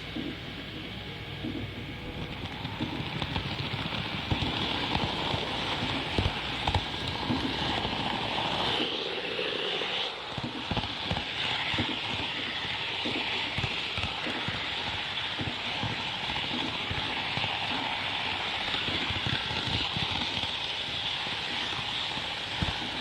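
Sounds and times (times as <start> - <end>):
model train rolling hiss: 3.1 - 23.0.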